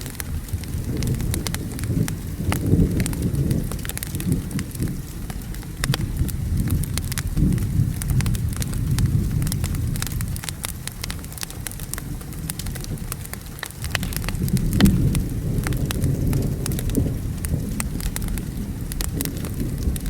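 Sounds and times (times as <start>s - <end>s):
low rumble of thunder: 0.0s - 20.0s
steady rain: 0.0s - 20.0s
wood fire crackling and popping: 0.0s - 20.0s.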